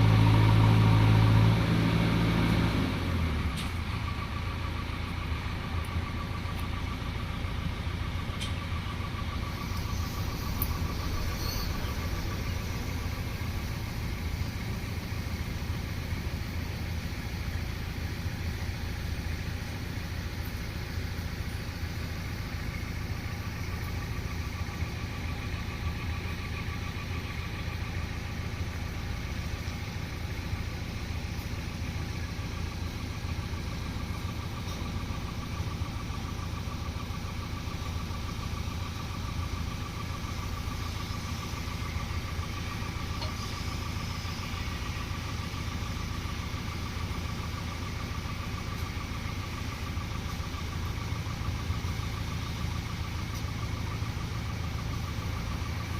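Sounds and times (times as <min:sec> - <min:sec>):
diesel engine running: 0:00.0 - 0:55.9
faint steady whine: 0:00.0 - 0:55.9.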